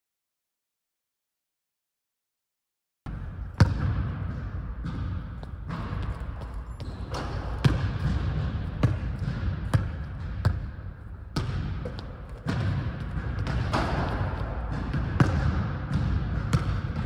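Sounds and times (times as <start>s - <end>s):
basketballs bouncing on wooden floor: 3.1s - 17.0s.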